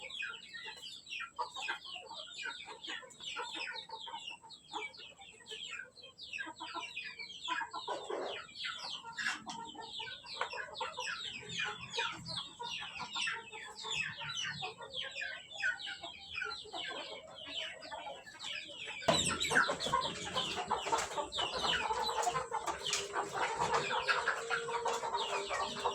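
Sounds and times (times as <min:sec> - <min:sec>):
chickens cheeping and clucking: 0:00.0 - 0:25.9.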